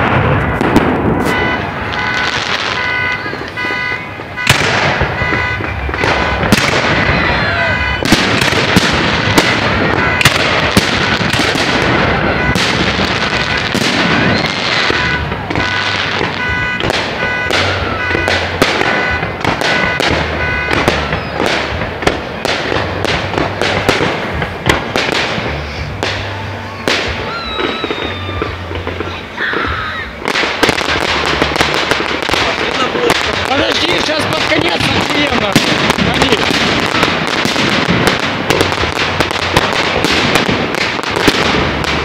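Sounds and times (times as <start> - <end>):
fireworks crackle: 0.0 - 42.0
fireworks shells bursting: 0.0 - 42.0.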